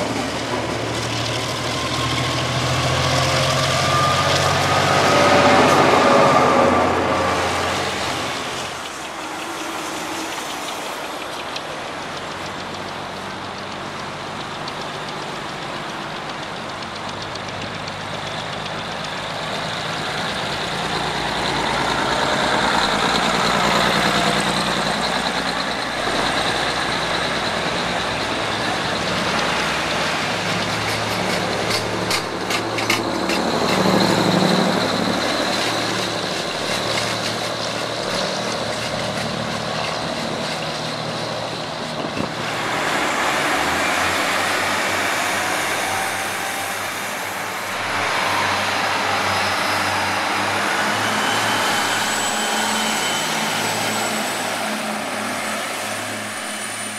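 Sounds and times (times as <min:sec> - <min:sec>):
diesel train engines running: 0:00.0 - 0:56.9.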